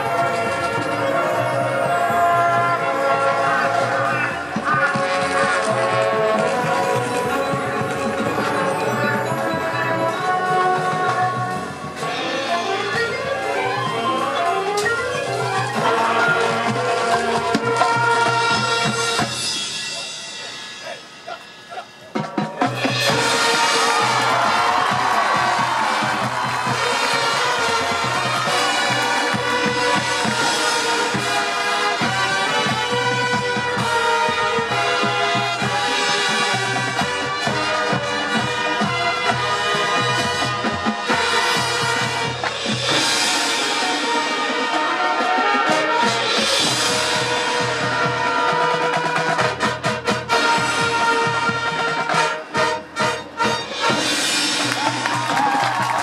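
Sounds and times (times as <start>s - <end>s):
brass holding chords: 0.0s - 20.3s, 22.6s - 55.1s
marching band playing: 0.0s - 56.0s
drum and percussion strokes: 3.7s - 56.0s.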